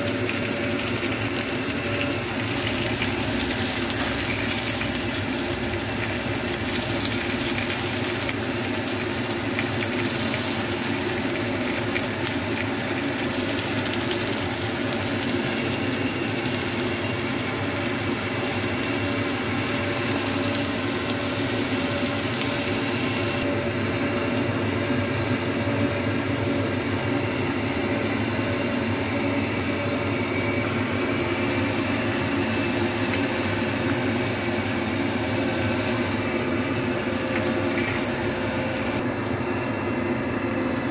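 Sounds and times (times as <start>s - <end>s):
onions sizzling in oil: 0.0s - 39.0s
steady mechanical hum: 0.0s - 40.9s.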